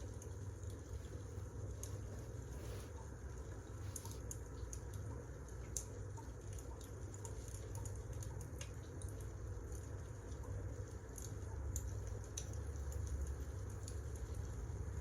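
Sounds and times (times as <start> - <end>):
low rumble of burning logs: 0.0 - 15.0.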